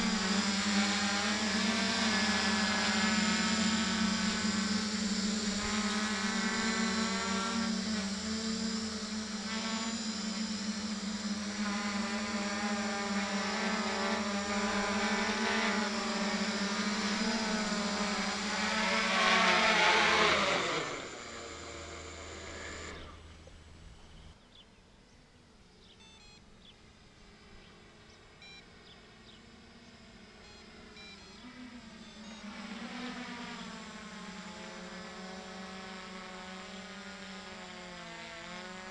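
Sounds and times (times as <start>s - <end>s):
drone propellers whirring: 0.0s - 38.9s.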